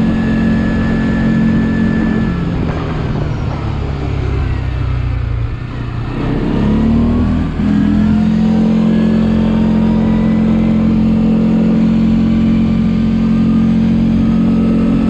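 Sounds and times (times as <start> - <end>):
atv engine at high revs: 0.0 - 15.0.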